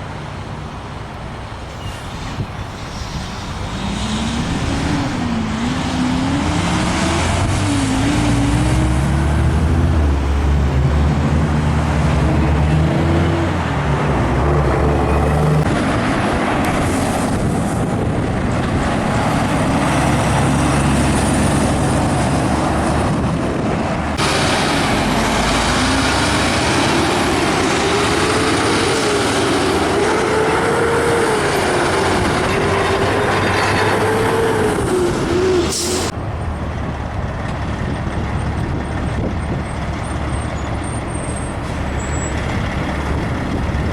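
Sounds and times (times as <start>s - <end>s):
diesel engines running: 0.0s - 43.9s
road and tyre noise: 0.0s - 43.9s
trucks passing on highway: 0.0s - 43.9s.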